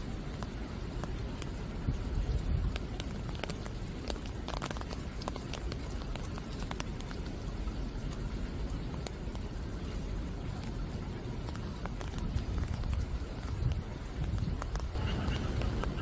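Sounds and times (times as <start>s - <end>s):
rain drops ticking on leaves: 0.0s - 16.0s.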